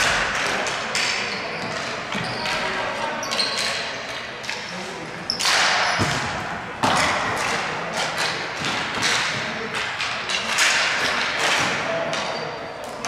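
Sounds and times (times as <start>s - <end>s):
hockey sticks clacking: 0.0s - 13.0s.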